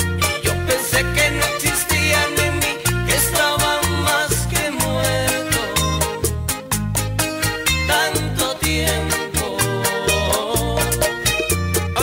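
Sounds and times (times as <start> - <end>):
latin song with bass line: 0.0 - 12.0
percussion beat: 0.0 - 12.0.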